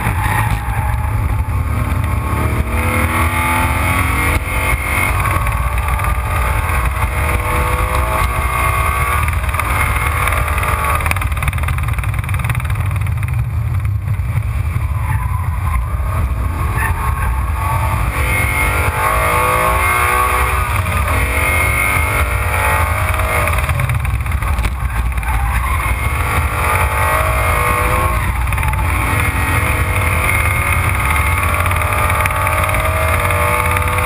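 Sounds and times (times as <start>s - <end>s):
car engine accelerating hard: 0.0s - 34.0s
heavy wind noise: 0.0s - 34.0s
road rumble: 0.0s - 34.0s.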